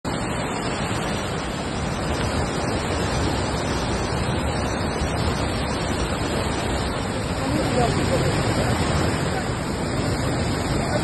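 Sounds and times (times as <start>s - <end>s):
rushing stream water: 0.0s - 11.0s.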